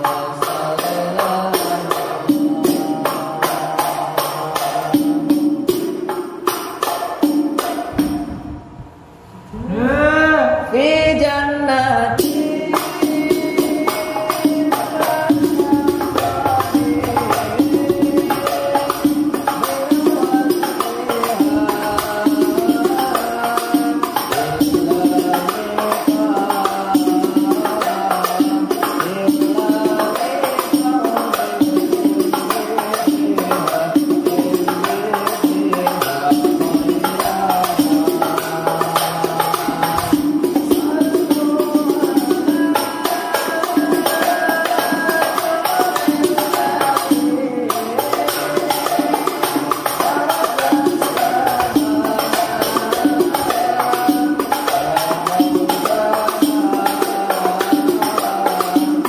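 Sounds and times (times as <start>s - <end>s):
frame drums with jingles: 0.0s - 8.4s, 12.2s - 59.0s.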